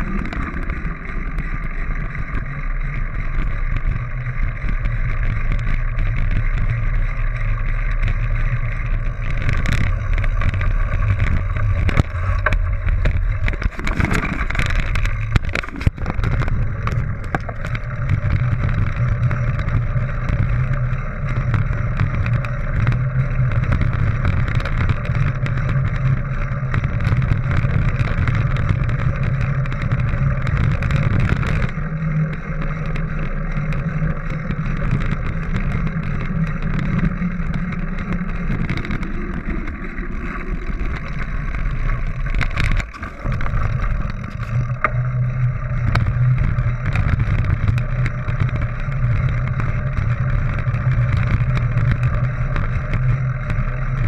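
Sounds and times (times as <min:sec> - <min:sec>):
tyres rumbling on dirt: 0:00.0 - 0:54.0.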